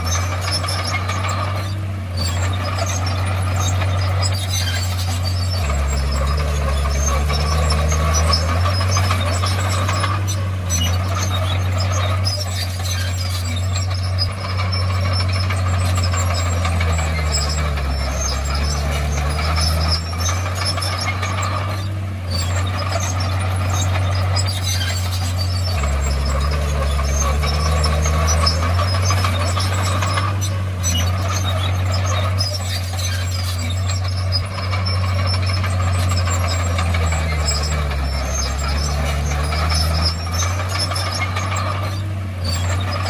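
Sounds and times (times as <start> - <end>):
bulldozer diesel engine: 0.0 - 43.0
crawler tracks squeaking and clinking: 0.0 - 43.0.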